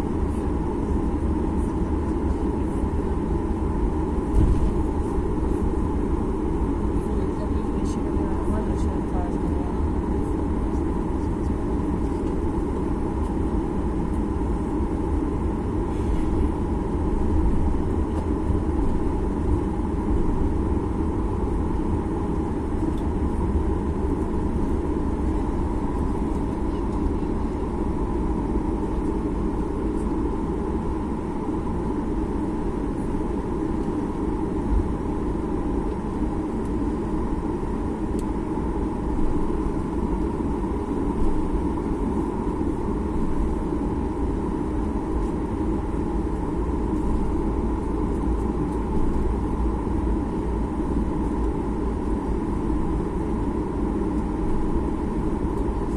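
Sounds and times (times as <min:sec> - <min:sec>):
airplane cabin rumble: 0:00.0 - 0:55.9.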